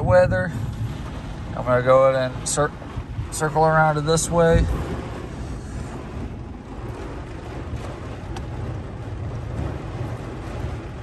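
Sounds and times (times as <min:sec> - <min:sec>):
low rumble: 0:00.0 - 0:11.0
rain and wind on truck: 0:00.0 - 0:11.0.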